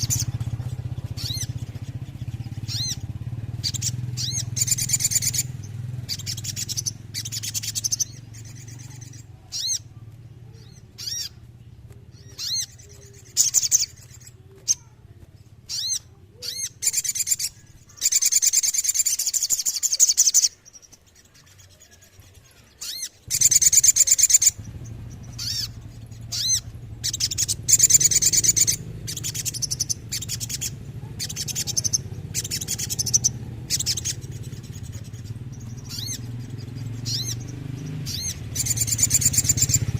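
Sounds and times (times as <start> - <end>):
bird singing high trills: 0.0 - 11.4, 12.1 - 15.0, 15.6 - 39.9.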